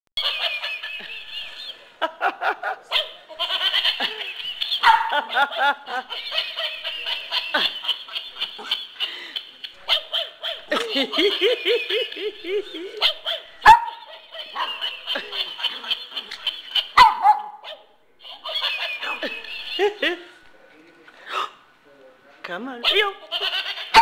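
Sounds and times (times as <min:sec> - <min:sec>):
toy electronic giggling: 0:00.2 - 0:02.2, 0:02.8 - 0:20.3, 0:22.9 - 0:24.0.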